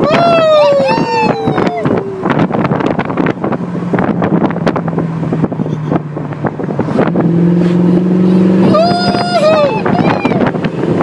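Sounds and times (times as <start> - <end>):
car engine accelerating: 0.0 - 11.0
wind buffeting microphone: 0.0 - 11.0.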